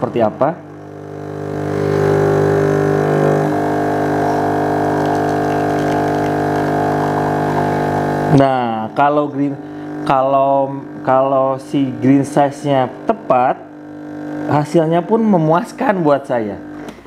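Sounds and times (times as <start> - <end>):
espresso machine pump buzzing: 0.0 - 17.0.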